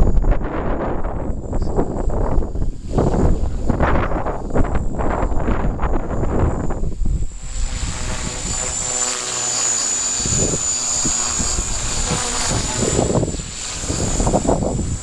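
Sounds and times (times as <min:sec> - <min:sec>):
wind buffeting microphone: 0:00.0 - 0:15.0
motor droning hum: 0:00.2 - 0:15.0.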